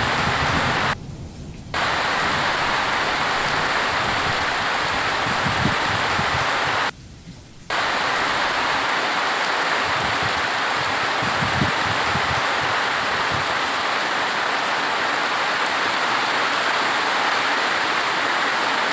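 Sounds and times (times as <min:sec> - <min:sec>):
heavy rain hiss: 0:00.0 - 0:18.9.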